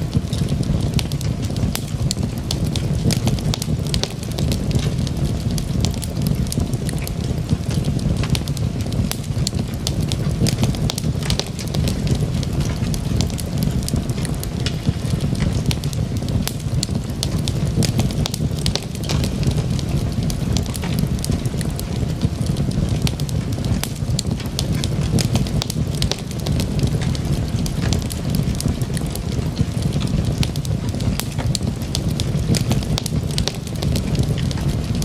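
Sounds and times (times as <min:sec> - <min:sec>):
fire flame rushing: 0:00.0 - 0:35.0
wood crackling and popping: 0:00.0 - 0:35.0.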